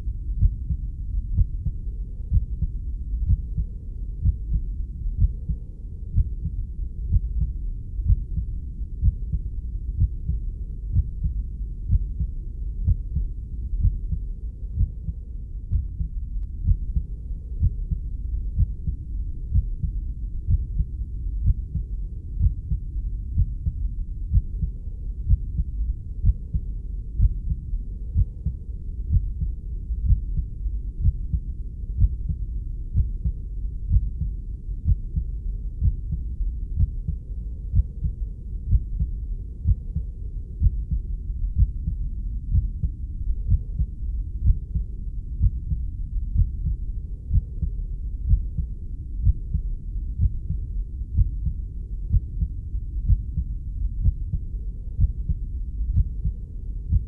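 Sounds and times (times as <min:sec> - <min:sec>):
muffled heartbeat thumps: 0:00.0 - 0:57.0.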